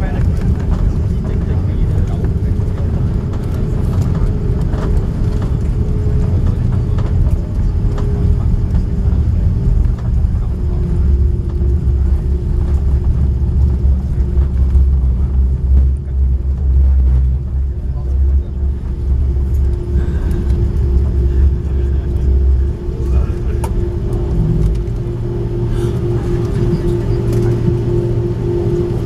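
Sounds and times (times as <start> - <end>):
engine and wheel rumble: 0.0 - 29.0
faint hum: 0.0 - 29.0.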